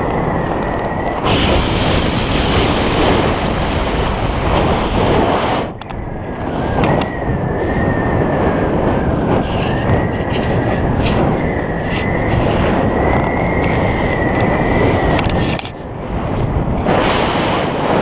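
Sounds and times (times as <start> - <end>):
heavy wind rush: 0.0 - 18.0.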